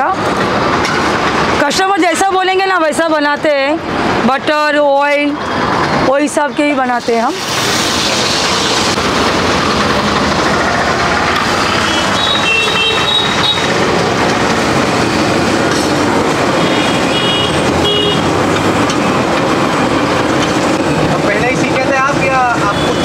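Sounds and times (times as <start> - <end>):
road traffic hum: 0.0 - 23.0.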